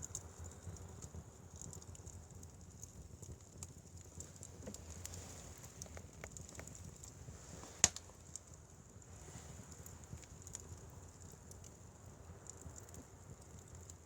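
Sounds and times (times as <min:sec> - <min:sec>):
fire snapping: 0:00.0 - 0:14.0
wood fire crackling: 0:00.0 - 0:14.0.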